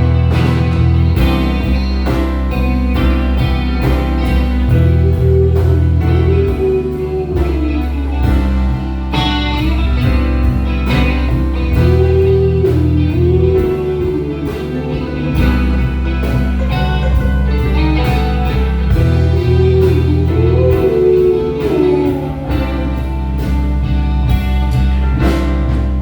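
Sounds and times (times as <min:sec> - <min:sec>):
band playing bass drums and keys: 0:00.0 - 0:26.0
electric guitar lead line: 0:00.0 - 0:26.0.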